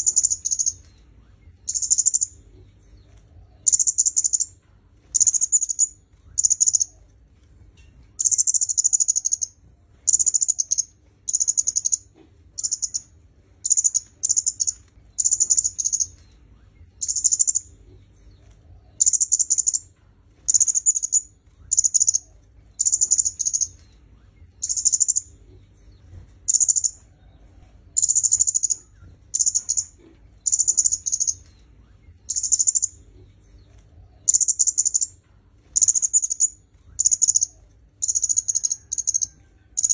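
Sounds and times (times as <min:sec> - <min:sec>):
songbird high-pitched twittering: 0:00.0 - 0:07.0, 0:08.2 - 0:18.3, 0:18.9 - 0:25.4, 0:26.4 - 0:27.1, 0:28.0 - 0:39.9.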